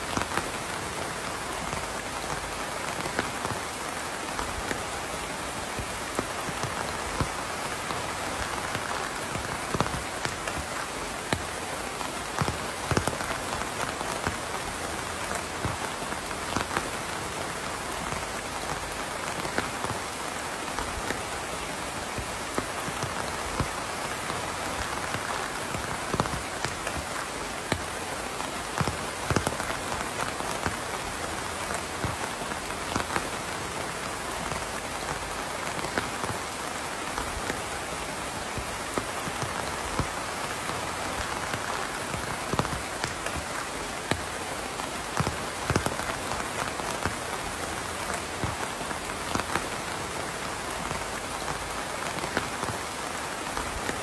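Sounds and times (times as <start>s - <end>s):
raindrops plinking: 0.0s - 54.0s
steady rain hiss: 0.0s - 54.0s.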